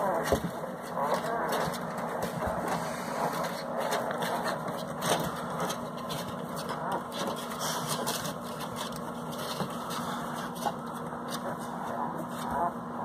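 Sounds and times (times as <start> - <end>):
constant background rush: 0.0 - 13.0
steady mechanical hum: 0.0 - 13.0.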